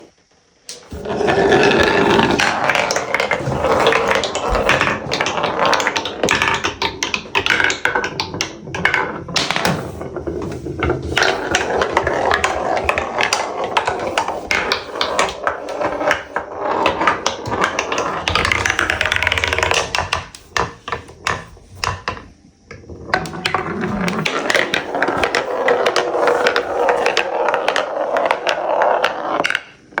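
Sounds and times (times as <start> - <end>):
marbles clattering down marble run: 0.9 - 30.0.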